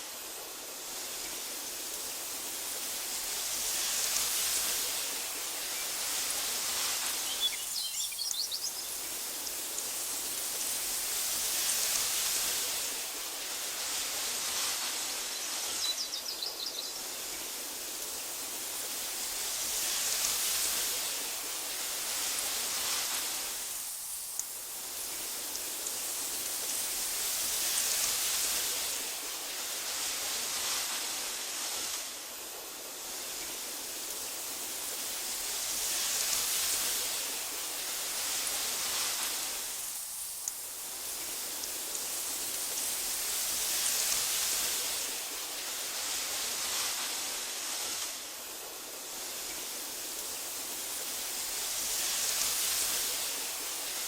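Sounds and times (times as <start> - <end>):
wind through tall grass: 0.0 - 54.0.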